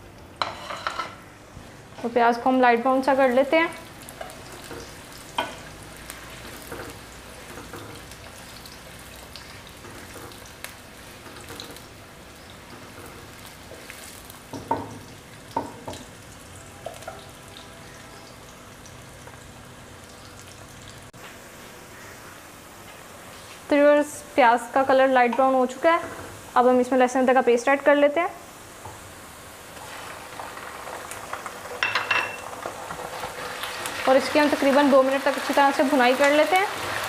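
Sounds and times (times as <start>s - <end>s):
onions sizzling in oil: 0.0s - 37.0s.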